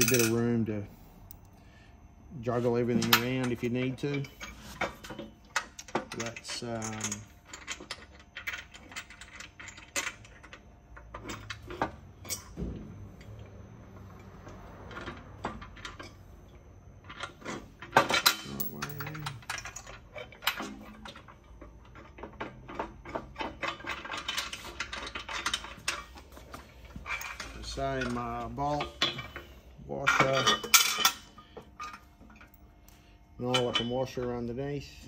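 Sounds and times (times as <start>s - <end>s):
bolts clinking against metal: 0.0s - 0.6s, 2.6s - 32.6s, 33.4s - 34.7s.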